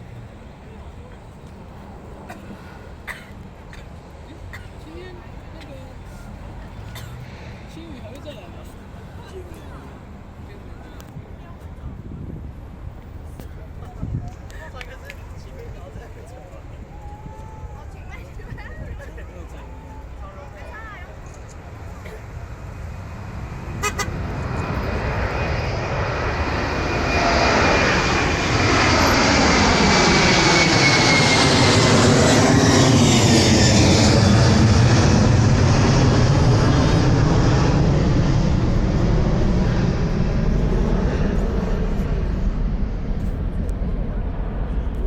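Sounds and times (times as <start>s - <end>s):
jet airliner passing overhead: 0.0s - 45.0s.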